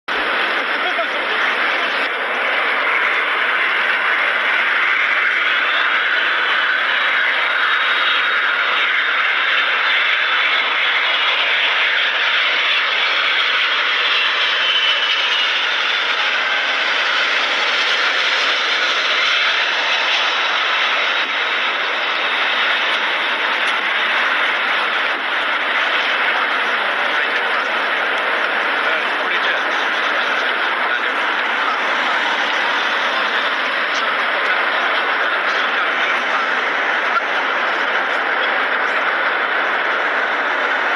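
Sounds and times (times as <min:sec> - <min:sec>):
faint whine drifting in pitch: 0:00.1 - 0:40.9
jet engines roaring: 0:00.1 - 0:40.9.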